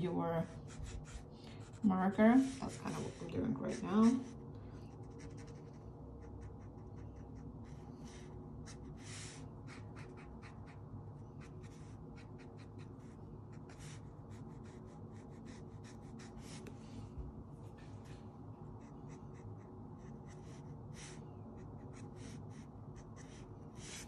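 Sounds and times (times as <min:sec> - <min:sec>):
steady low hum: 0:00.0 - 0:24.0
marker scratching on paper: 0:00.7 - 0:04.4, 0:05.0 - 0:10.8, 0:11.4 - 0:16.7, 0:18.8 - 0:24.0.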